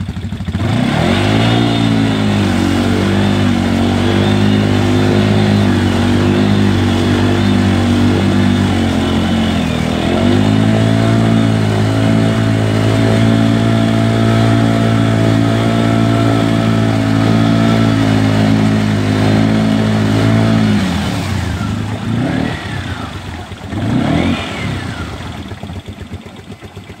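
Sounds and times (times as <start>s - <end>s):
atv engine revving: 0.0s - 27.0s.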